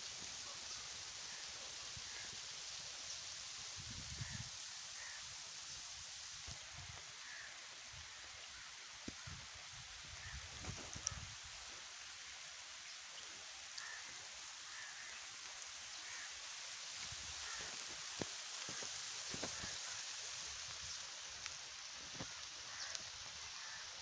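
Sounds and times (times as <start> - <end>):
light rain hissing: 0.0 - 24.0
raindrops ticking on surfaces: 0.0 - 24.0.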